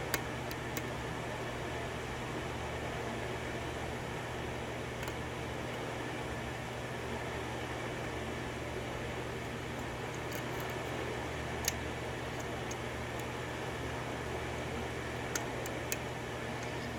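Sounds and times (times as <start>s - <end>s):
steady fan hum and hiss: 0.0s - 16.9s.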